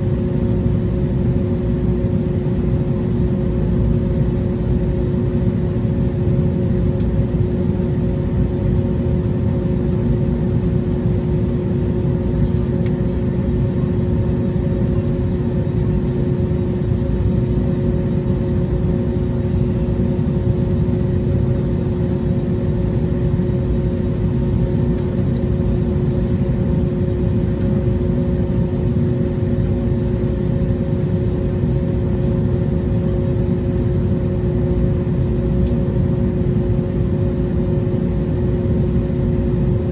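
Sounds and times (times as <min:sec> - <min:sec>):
airliner engines rumbling: 0:00.0 - 0:39.9
droning hums: 0:00.0 - 0:39.9.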